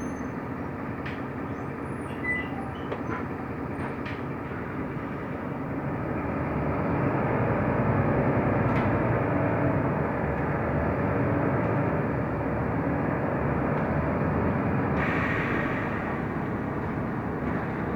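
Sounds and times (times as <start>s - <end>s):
bus engine and road rumble: 0.0s - 17.9s.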